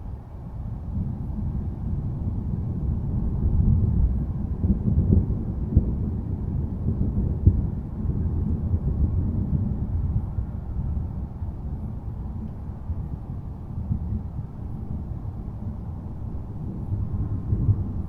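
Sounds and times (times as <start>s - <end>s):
rolling thunder rumble: 0.5s - 18.0s.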